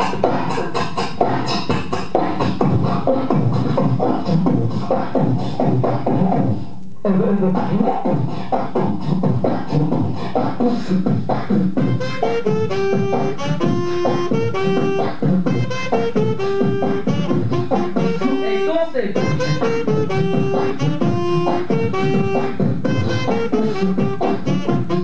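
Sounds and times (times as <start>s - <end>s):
beatboxing into a microphone: 0.0s - 25.0s.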